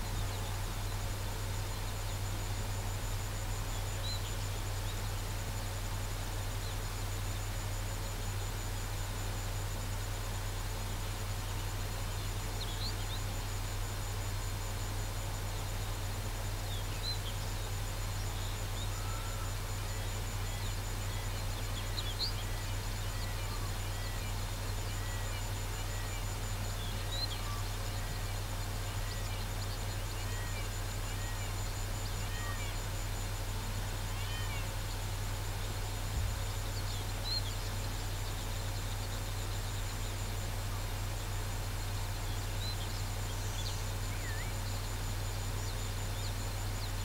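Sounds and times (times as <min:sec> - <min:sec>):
low hum and hiss: 0:00.0 - 0:47.0.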